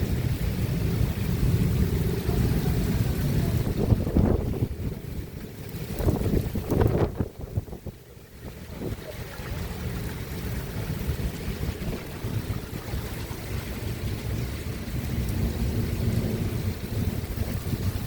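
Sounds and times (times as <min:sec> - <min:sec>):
low thunder rumble: 0:00.0 - 0:18.0
rain falling: 0:00.0 - 0:18.0.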